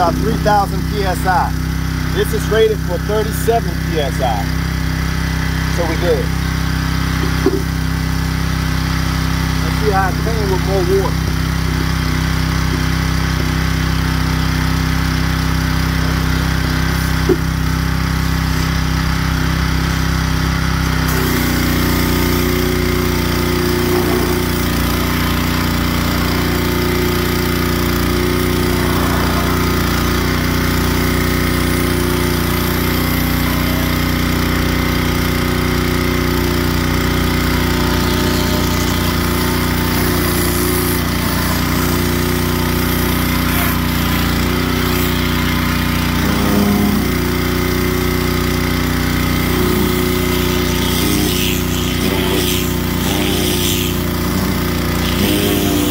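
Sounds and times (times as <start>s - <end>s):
pressure washer engine running: 0.0s - 55.9s
water spraying onto concrete: 11.1s - 55.9s.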